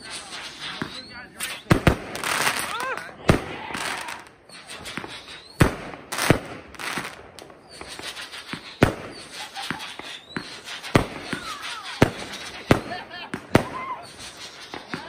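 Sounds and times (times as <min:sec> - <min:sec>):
fireworks bangs: 0:00.0 - 0:15.0
fireworks pops and crackling: 0:00.0 - 0:15.0.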